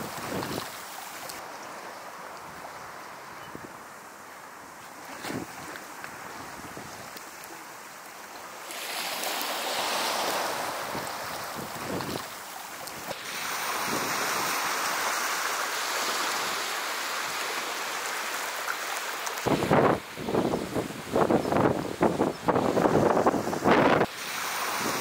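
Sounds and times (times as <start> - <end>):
small sea waves: 0.0 - 25.0.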